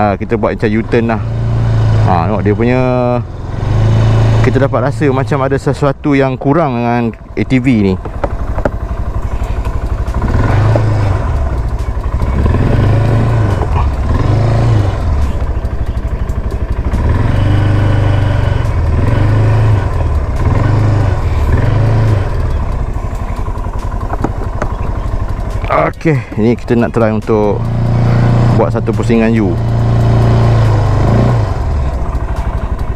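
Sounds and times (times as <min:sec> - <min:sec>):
quad bike engine revving: 0:00.0 - 0:32.9.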